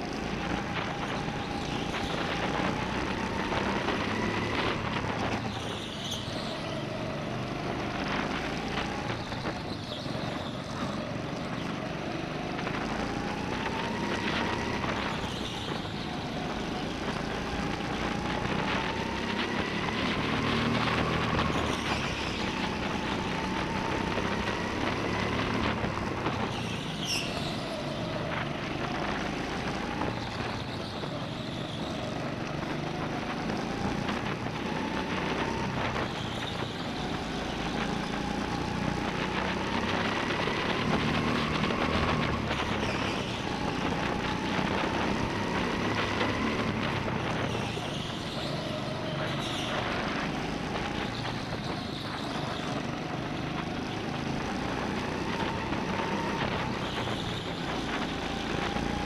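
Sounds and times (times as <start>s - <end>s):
go-kart engines running: 0.0s - 59.0s.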